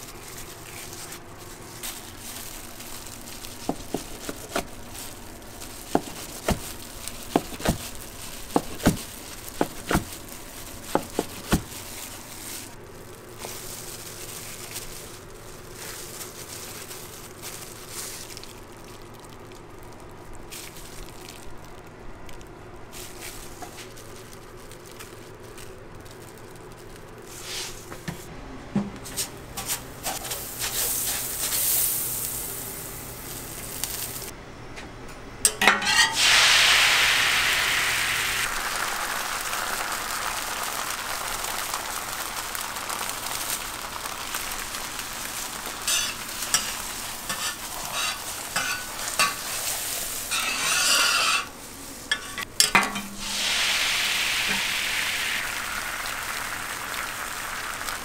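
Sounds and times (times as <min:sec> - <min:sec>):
liquid sizzling on hot griddle: 0:00.0 - 0:28.0, 0:30.1 - 0:34.3, 0:35.6 - 0:58.0.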